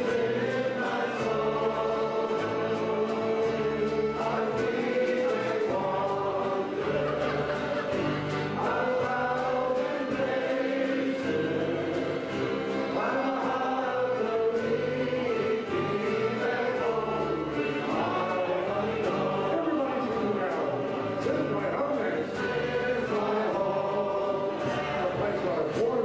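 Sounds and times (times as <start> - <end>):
accordion: 0.0 - 26.0
acoustic guitars: 0.0 - 26.0
fiddle: 0.0 - 26.0
men singing together: 0.0 - 26.0.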